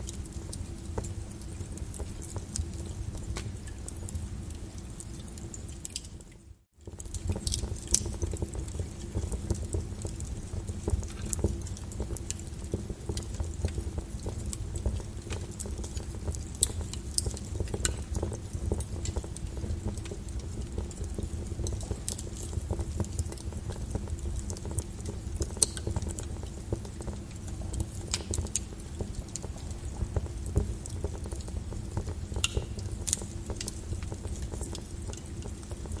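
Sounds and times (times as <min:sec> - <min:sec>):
rain patter: 0:00.0 - 0:36.0
wood fire crackling and popping: 0:00.0 - 0:36.0.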